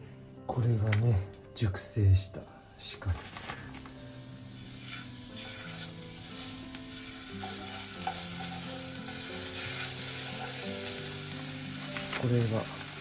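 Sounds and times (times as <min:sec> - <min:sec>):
meat sizzling in a pan: 0:02.4 - 0:13.0.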